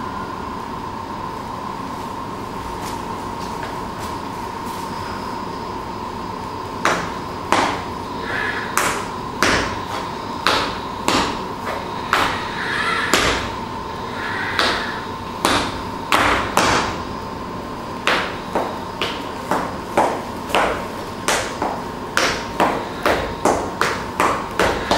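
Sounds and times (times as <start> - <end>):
steady high hum: 0.0 - 24.9.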